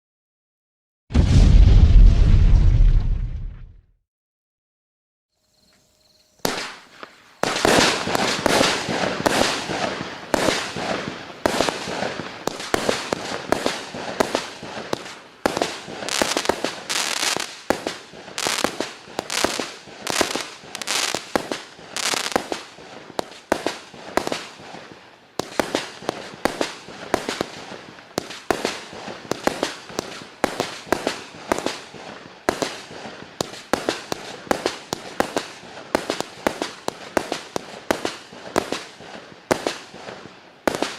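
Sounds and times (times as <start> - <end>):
firework bangs: 1.1 - 3.8, 6.4 - 40.9
firework crackling: 6.5 - 40.9.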